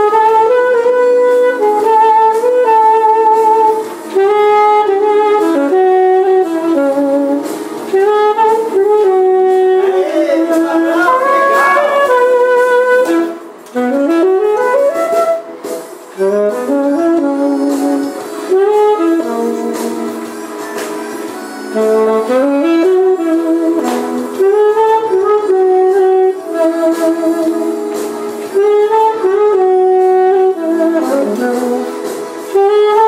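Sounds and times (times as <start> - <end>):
saxophone jazzy melody: 0.0 - 33.0.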